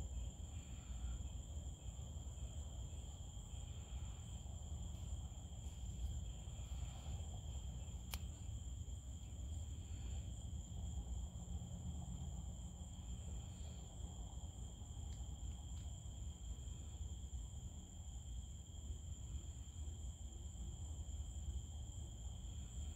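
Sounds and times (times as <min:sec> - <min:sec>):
crickets trilling: 0:00.0 - 0:22.9
low background rumble: 0:00.0 - 0:22.9.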